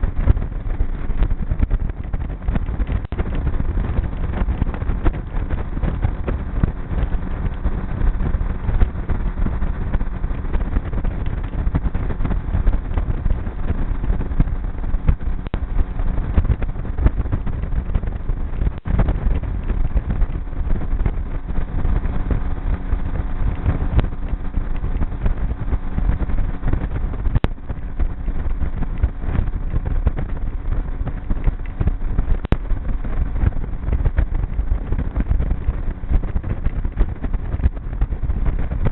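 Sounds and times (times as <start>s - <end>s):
motorboat engine running: 0.0s - 38.9s
wind rumbling on microphone: 0.0s - 38.9s.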